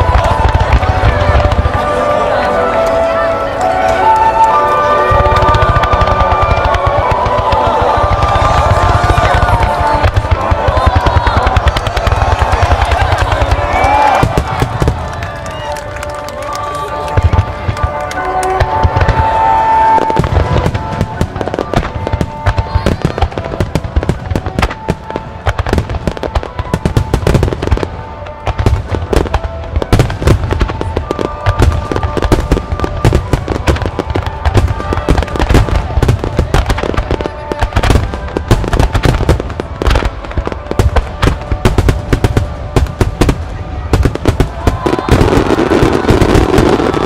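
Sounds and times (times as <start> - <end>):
fireworks bursting and crackling: 0.0 - 47.0
music playing: 0.0 - 47.0.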